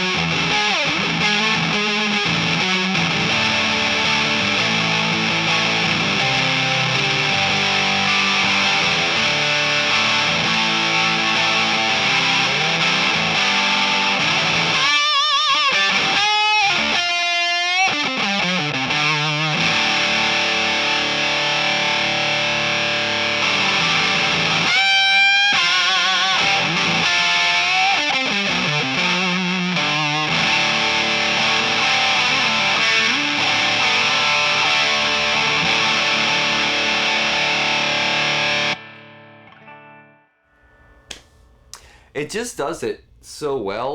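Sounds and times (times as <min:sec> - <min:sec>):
guitar lead notes with vibrato: 0:00.0 - 0:40.0
fuzzy electric guitar chords: 0:00.0 - 0:42.0.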